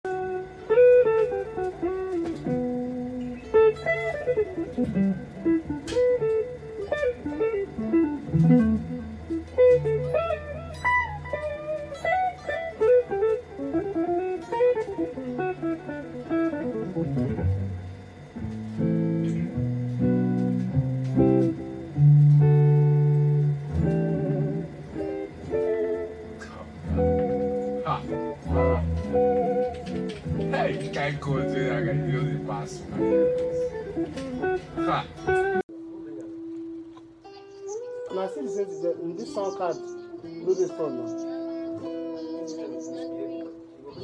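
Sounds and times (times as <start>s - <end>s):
electric guitar lead line: 0.1s - 44.0s.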